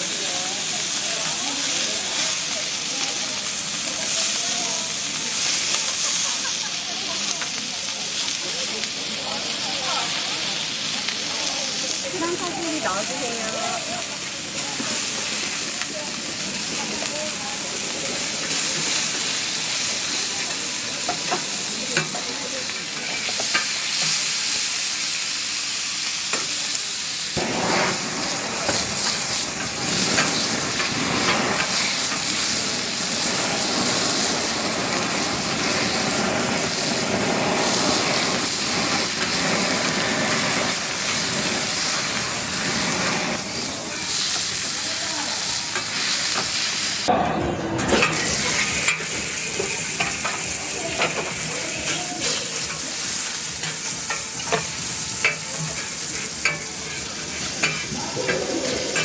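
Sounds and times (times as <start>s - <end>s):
steak sizzling on a griddle: 0.0s - 47.1s, 48.0s - 59.0s.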